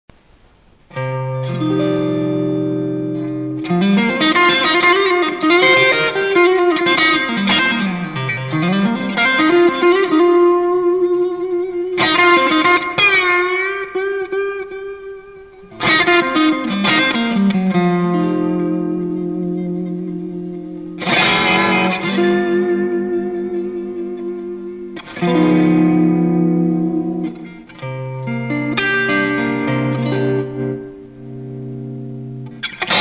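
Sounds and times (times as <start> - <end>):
electric guitar through an amp: 0.2 - 33.0.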